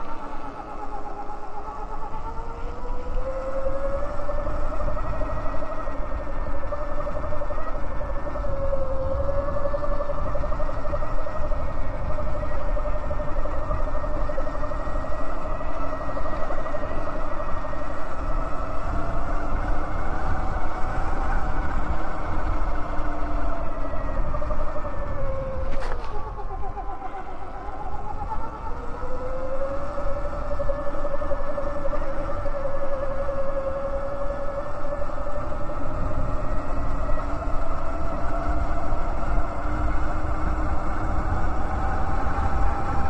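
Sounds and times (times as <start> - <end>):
electric bike motor whining: 0.0 - 43.0
wind rumble on microphone: 0.0 - 43.0.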